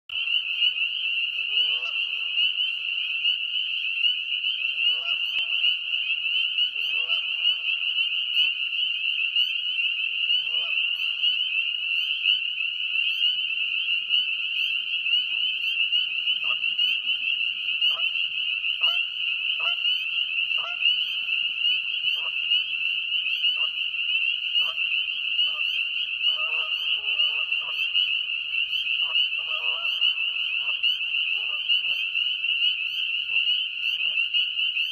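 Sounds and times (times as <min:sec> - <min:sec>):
chorus of peeping frogs: 0:00.1 - 0:34.9
geese calling: 0:00.1 - 0:34.9.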